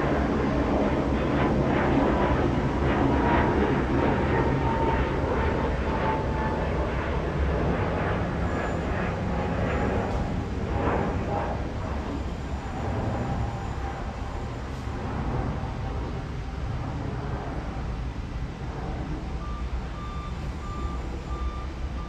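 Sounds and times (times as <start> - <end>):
jet aircraft passing overhead: 0.0 - 22.0.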